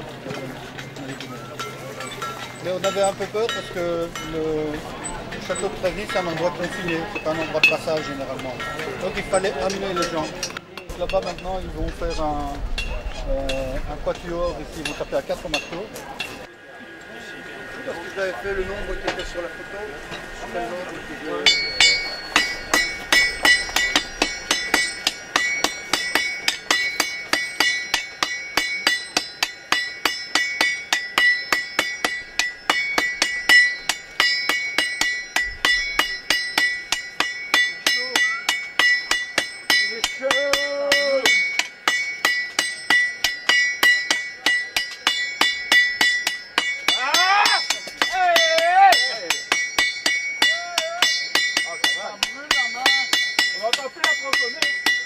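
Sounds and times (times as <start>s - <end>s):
sledgehammers striking iron on anvil: 0.3s - 16.5s, 21.3s - 55.0s
anvil ringing: 0.7s - 16.5s, 18.0s - 55.0s.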